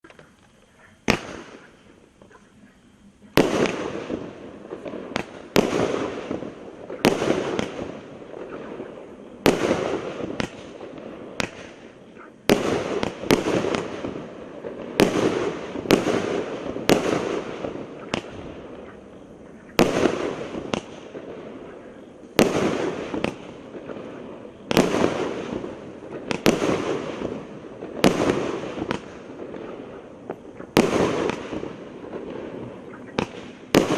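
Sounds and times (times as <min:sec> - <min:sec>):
hiss and crackle of fireworks: 0:00.0 - 0:33.9.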